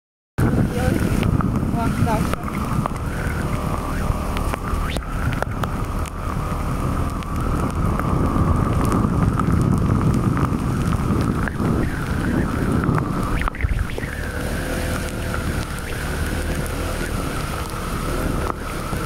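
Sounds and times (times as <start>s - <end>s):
motorbike engine whine: 0.4s - 19.0s
wind buffeting microphone: 0.4s - 19.0s.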